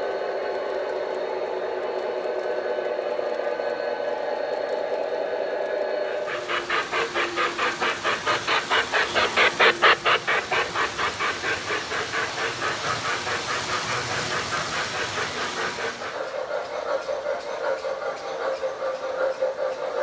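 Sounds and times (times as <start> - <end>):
model steam locomotive chuffing: 0.0 - 20.0
model train cars rumbling on track: 0.0 - 20.0.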